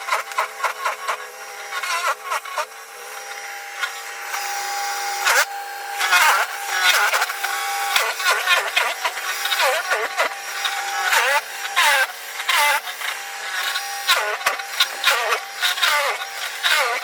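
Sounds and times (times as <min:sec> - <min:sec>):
snow blower motor whine: 0:00.0 - 0:17.0.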